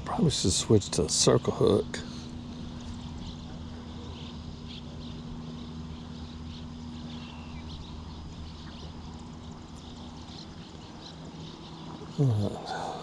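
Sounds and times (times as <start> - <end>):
small birds chirping: 0.0 - 13.0
steady hum: 0.0 - 13.0
steady low rumble: 0.0 - 13.0.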